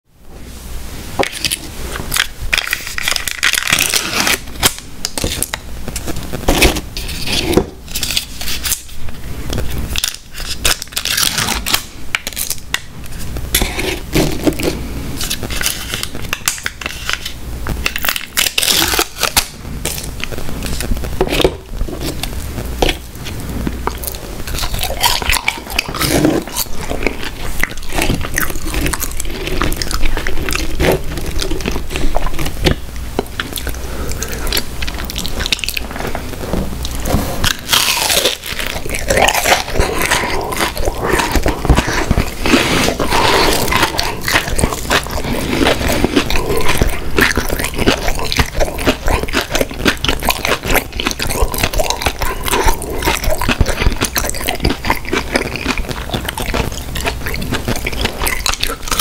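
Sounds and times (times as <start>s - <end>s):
plastic cups crinkling and scraping: 1.2s - 59.0s.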